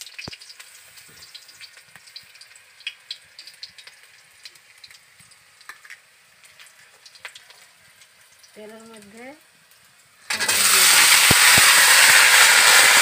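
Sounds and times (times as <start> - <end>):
crackles and pops of oil: 0.0 - 13.0
spices sizzling in hot oil: 0.0 - 13.0.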